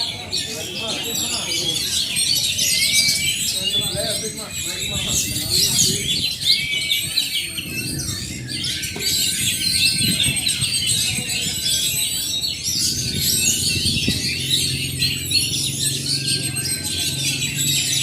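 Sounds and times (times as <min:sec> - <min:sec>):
birds singing chirps and trills: 0:00.0 - 0:18.0.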